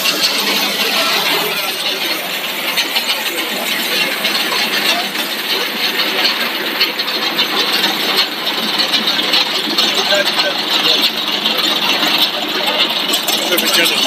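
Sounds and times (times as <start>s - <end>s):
machine running with fine rattle: 0.0s - 14.0s.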